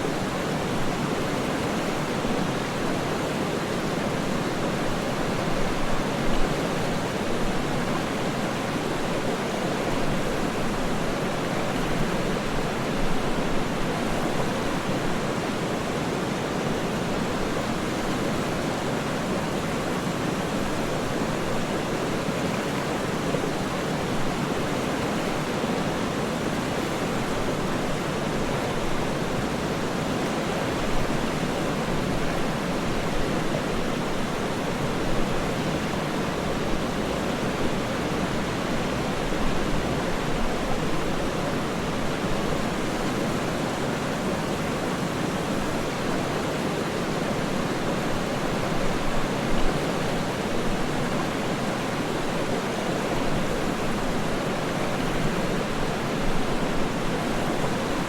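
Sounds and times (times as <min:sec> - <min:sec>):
waterfall rushing: 0:06.7 - 0:58.0.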